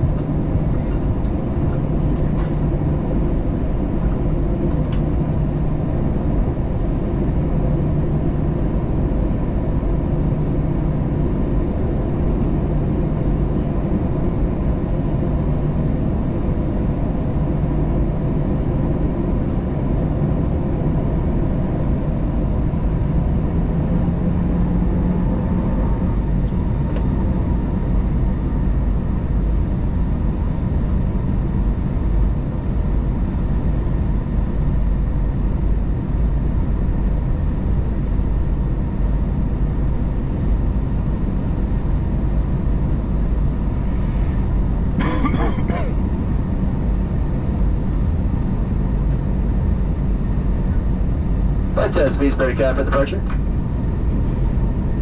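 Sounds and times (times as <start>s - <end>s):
airplane cabin noise: 0.0s - 55.0s
low engine drone: 0.0s - 55.0s.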